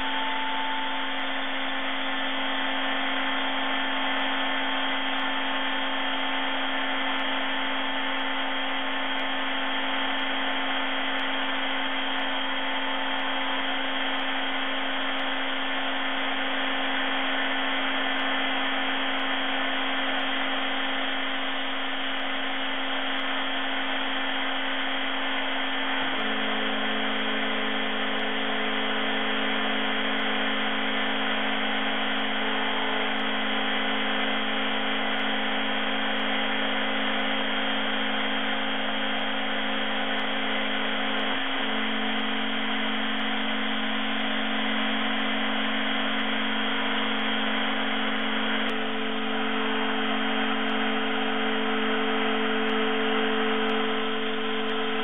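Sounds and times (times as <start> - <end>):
milling spindle whine: 0.0 - 55.0.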